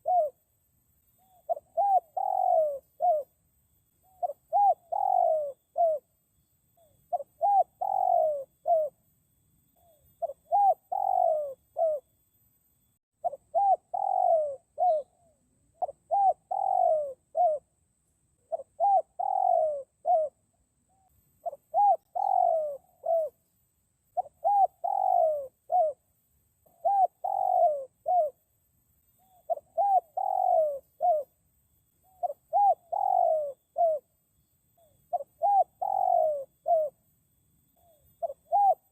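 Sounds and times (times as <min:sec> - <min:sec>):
dove cooing: 0:00.0 - 0:00.4, 0:01.2 - 0:03.4, 0:04.0 - 0:06.2, 0:06.8 - 0:09.1, 0:09.7 - 0:12.1, 0:13.2 - 0:17.8, 0:18.4 - 0:23.4, 0:24.2 - 0:28.5, 0:29.1 - 0:31.4, 0:32.0 - 0:34.2, 0:34.8 - 0:37.1, 0:37.7 - 0:38.9.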